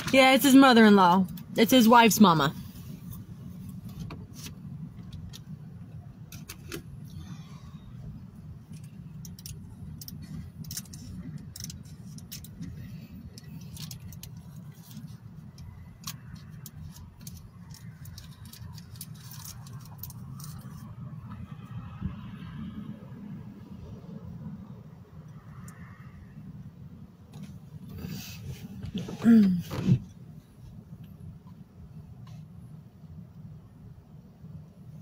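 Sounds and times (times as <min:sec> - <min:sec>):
car interior rumble: 0:00.0 - 0:35.0.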